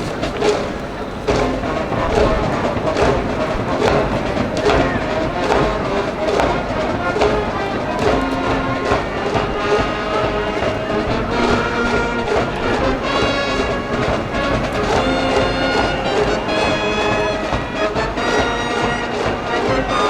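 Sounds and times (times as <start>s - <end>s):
brass band playing: 0.0s - 20.0s
regular drum beat: 0.0s - 20.0s
trumpets and trombones melody: 0.0s - 20.0s.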